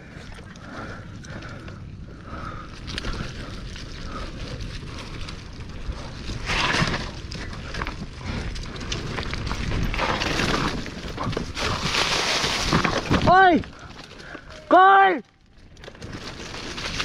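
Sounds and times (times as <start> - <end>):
bike tyres on dirt and leaves: 0.0 - 17.0.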